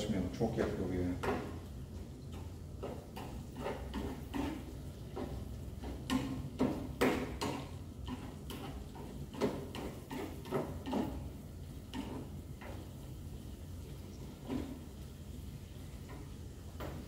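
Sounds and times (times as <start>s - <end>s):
utensil scraping in frying pan: 1.1s - 17.0s.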